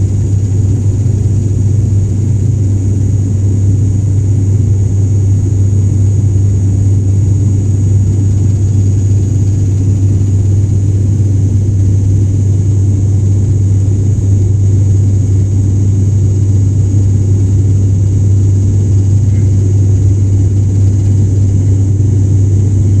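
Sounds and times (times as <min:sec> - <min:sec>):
airliner engine drone in cabin: 0:00.0 - 0:23.0.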